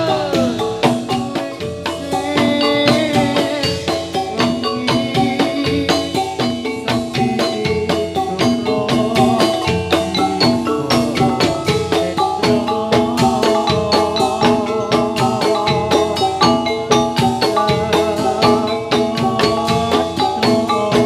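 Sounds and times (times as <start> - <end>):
drums: 0.0 - 21.0.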